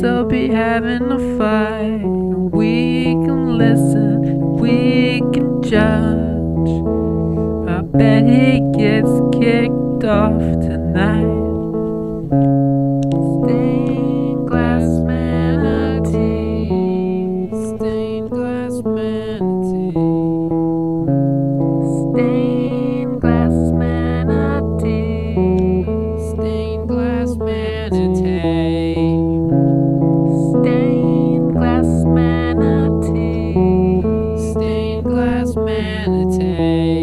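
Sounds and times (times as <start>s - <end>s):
held bass guitar notes: 0.0s - 37.0s
plucked guitar: 0.0s - 37.0s.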